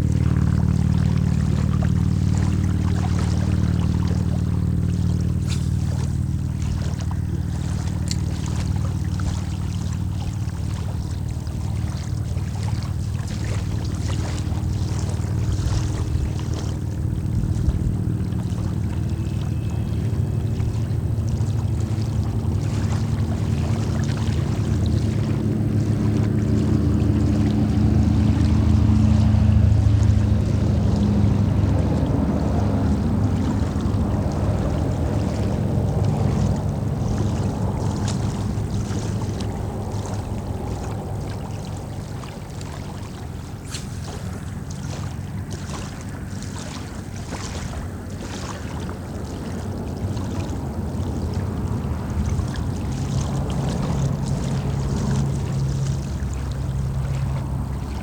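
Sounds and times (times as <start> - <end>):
rushing water: 0.0 - 58.0
wind rumble on microphone: 0.0 - 58.0.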